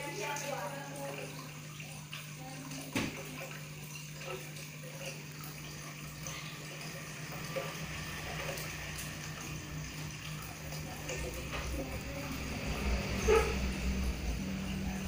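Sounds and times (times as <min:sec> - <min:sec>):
aquarium water splashing: 0:00.0 - 0:15.0
tank pump humming: 0:00.0 - 0:15.0.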